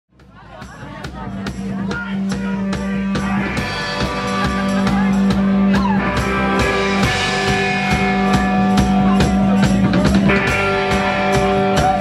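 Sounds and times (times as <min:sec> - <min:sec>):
steady drum beat: 0:00.1 - 0:12.0
electric guitar: 0:01.5 - 0:12.0.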